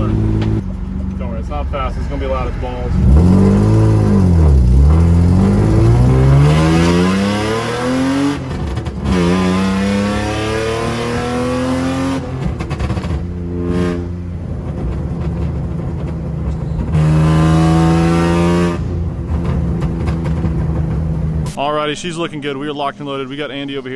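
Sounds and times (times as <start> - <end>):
car engine accelerating hard: 0.0 - 21.5.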